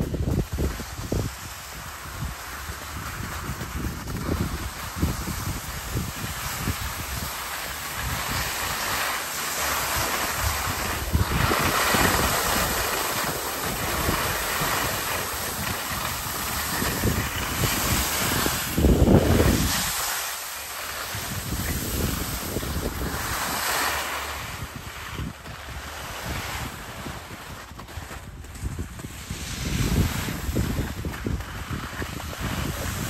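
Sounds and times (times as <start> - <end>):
skis sliding on snow: 0.0 - 33.0
wind rushing over microphone: 0.0 - 33.0.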